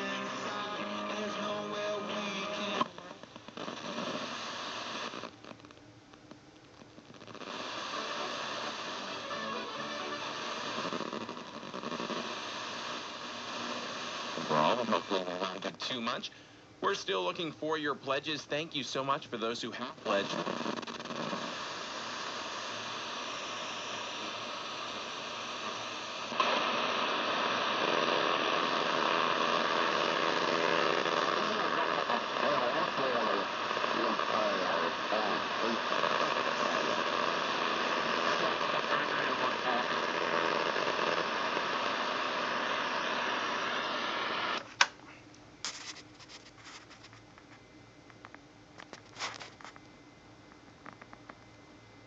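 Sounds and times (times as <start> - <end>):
radio static: 0.0 - 5.7, 6.8 - 44.8
faint steady tones: 0.0 - 20.7, 21.3 - 45.4.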